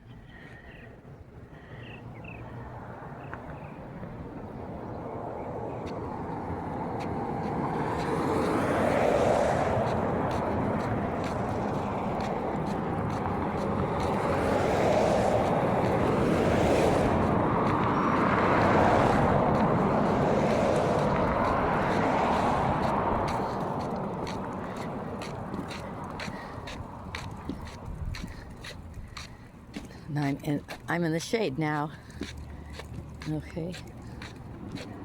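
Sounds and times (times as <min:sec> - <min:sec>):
vehicles passing close by: 0:00.0 - 0:35.0.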